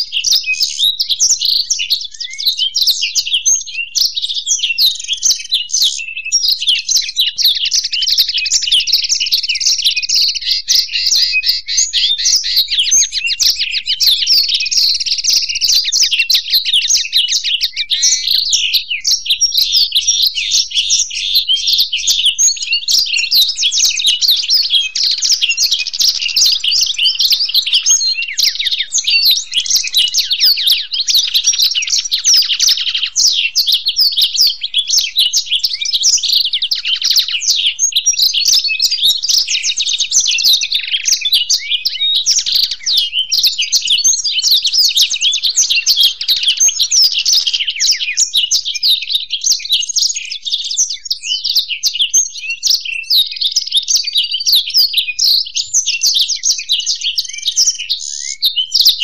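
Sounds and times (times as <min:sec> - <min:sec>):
songbirds twittering and trilling: 0:00.0 - 0:59.0.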